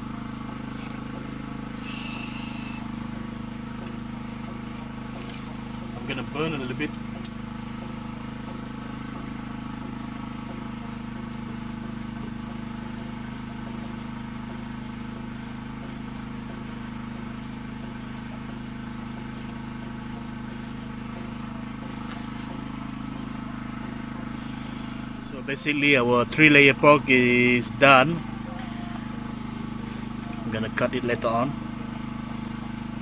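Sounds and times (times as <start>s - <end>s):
small motor humming: 0.0s - 33.0s.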